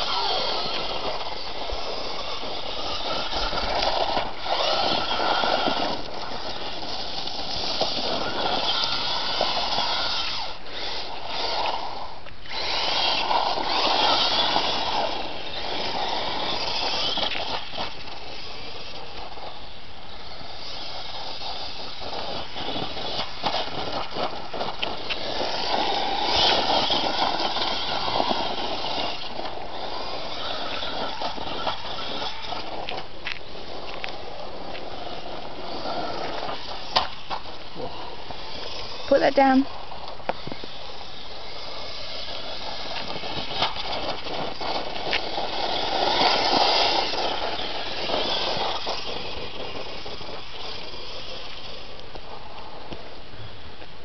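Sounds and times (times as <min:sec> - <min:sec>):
electric motor whining: 0:00.0 - 0:53.9
tyres hissing on dirt: 0:00.0 - 0:54.0.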